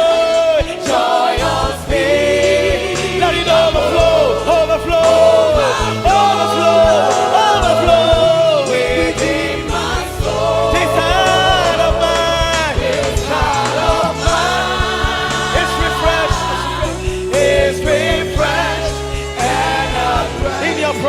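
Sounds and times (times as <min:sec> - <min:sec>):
bass: 0:00.0 - 0:21.0
keyboard: 0:00.0 - 0:21.0
singers holding long notes: 0:00.0 - 0:21.0
steady drum beat: 0:00.0 - 0:21.0.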